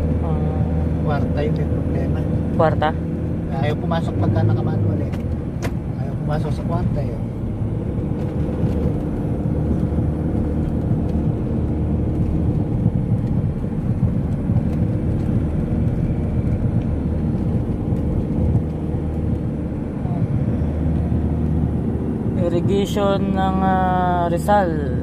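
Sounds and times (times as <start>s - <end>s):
diesel engine running: 0.0s - 25.0s
road noise: 0.0s - 25.0s.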